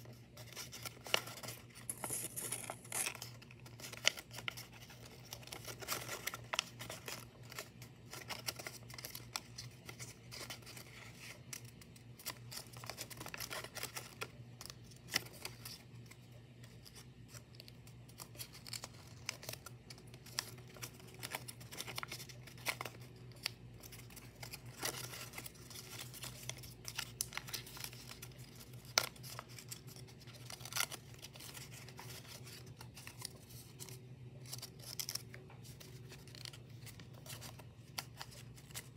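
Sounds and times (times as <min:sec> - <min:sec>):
paper rustling and crinkling: 0:00.0 - 0:38.9.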